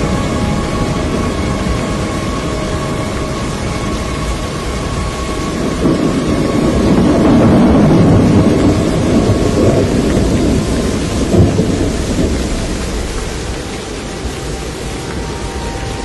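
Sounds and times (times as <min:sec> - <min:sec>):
deep storm rumble: 0:00.0 - 0:16.0
rain hissing: 0:00.0 - 0:16.0.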